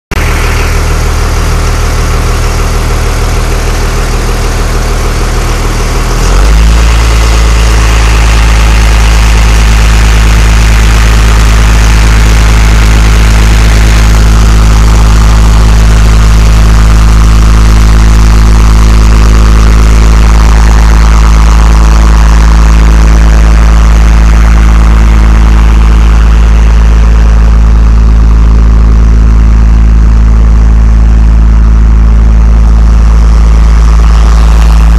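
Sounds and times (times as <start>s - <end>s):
dump truck engine idling: 0.1s - 34.9s.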